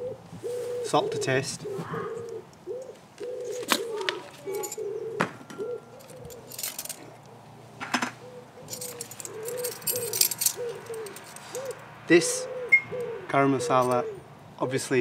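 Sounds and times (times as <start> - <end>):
pigeon cooing: 0.0 - 15.0.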